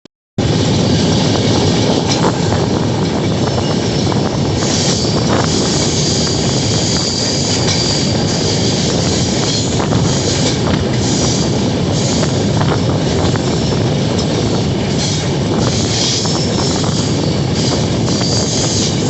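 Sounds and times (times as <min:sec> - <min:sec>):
train wheels clacking: 0:00.4 - 0:19.0
train wheels rumbling and rattling: 0:00.4 - 0:19.0.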